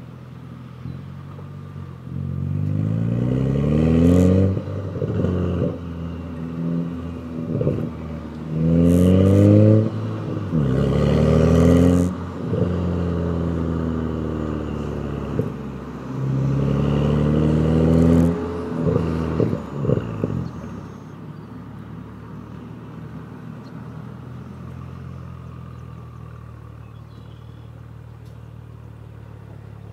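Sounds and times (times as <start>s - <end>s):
car engine revving and idling: 0.0s - 29.9s.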